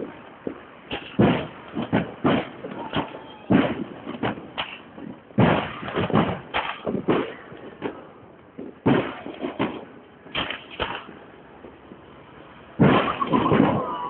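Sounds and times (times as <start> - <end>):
fireworks bangs with echo: 0.0 - 12.1, 12.7 - 14.0.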